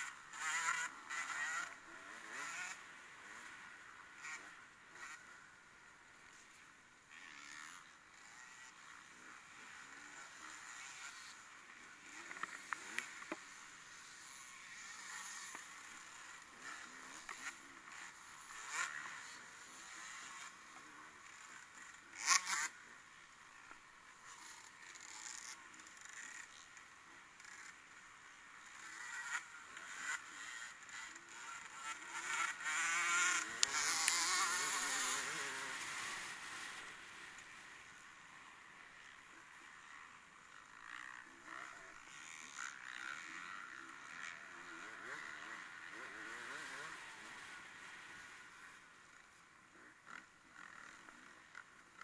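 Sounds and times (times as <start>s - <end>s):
distant race engines: 0.0s - 52.0s.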